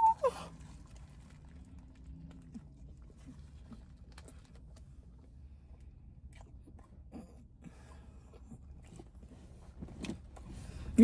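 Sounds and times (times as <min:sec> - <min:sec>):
close-up chewing: 0:00.4 - 0:10.5.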